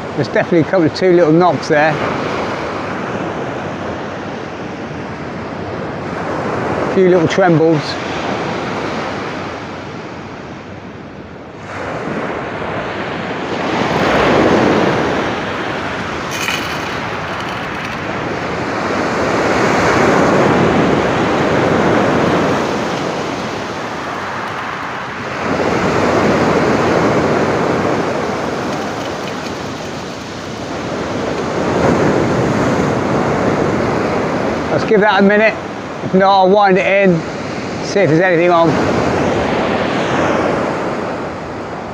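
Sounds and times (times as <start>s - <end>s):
sea surf breaking on beach: 1.2s - 10.3s, 11.6s - 36.2s, 36.8s - 41.9s.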